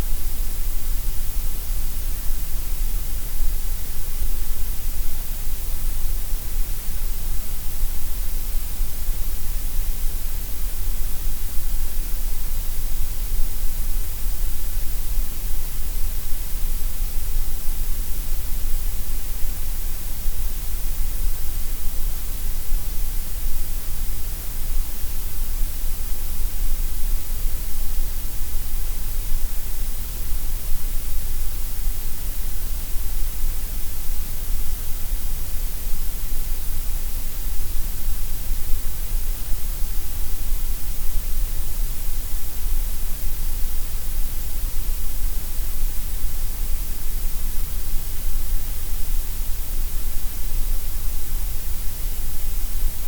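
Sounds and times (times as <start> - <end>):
steady gray noise hiss: 0.0 - 53.0.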